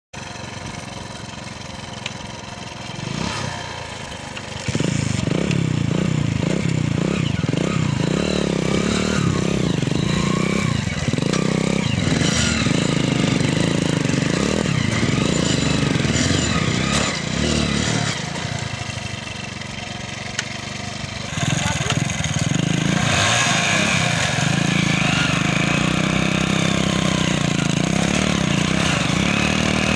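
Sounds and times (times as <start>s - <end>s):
motorcycle engines revving: 0.2s - 29.9s.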